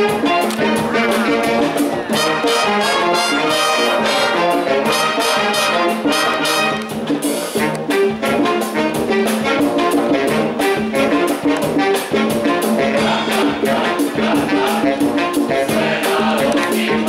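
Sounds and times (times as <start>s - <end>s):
brass chords and melody: 0.0s - 13.7s.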